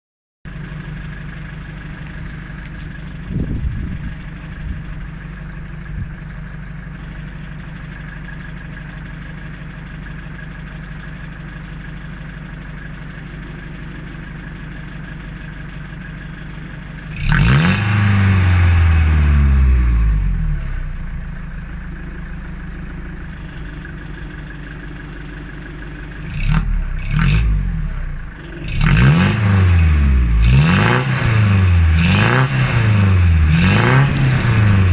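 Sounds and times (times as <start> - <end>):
diesel van engine idling and revving: 0.5 - 34.9.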